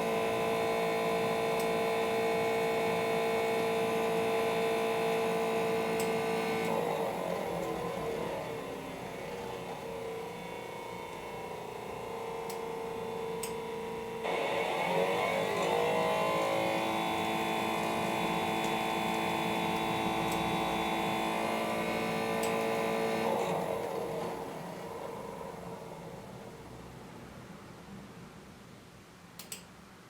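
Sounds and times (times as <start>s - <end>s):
coffee roaster motor humming: 0.0s - 26.8s.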